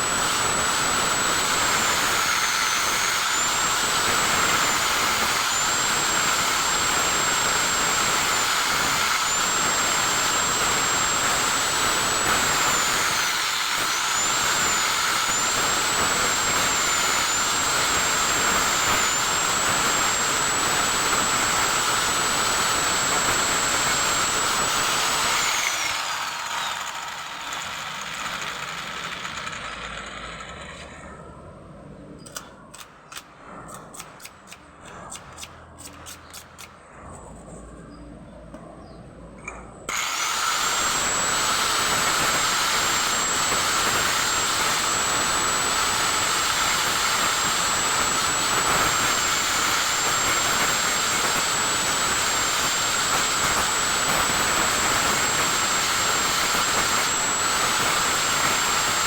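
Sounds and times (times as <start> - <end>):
power tool motor whining: 0.0 - 31.1, 39.9 - 59.0.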